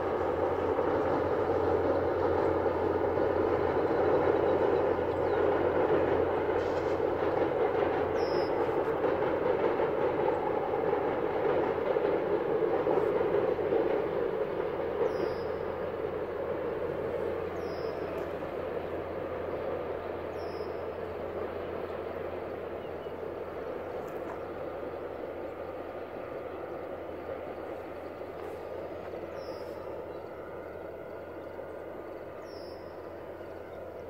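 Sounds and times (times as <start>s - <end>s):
train rumbling over steel bridge: 0.0s - 34.0s.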